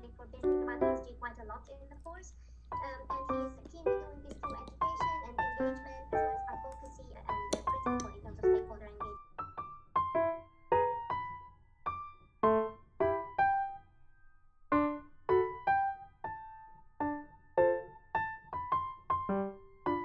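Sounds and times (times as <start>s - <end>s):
gentle keyboard melody: 0.0s - 1.2s, 2.7s - 20.0s.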